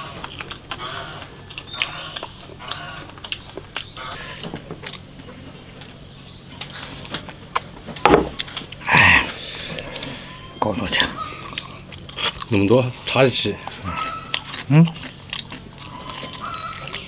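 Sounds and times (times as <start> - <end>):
chewing: 0.0 - 7.8, 9.6 - 17.0.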